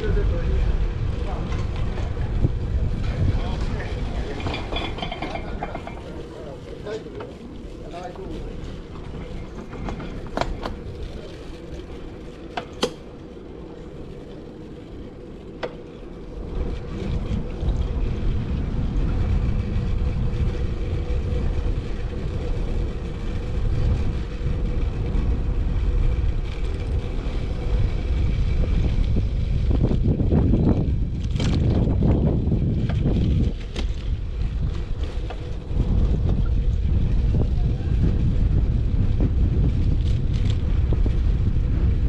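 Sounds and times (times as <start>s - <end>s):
street traffic: 0.0s - 42.0s
wind buffeting microphone: 0.0s - 42.0s.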